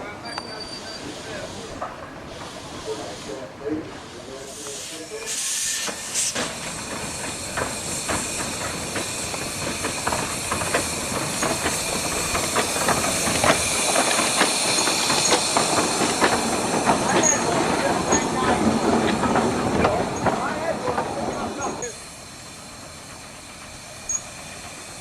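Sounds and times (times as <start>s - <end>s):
steam hiss: 0.0s - 25.0s
train wheels clicking over rails: 0.0s - 25.0s.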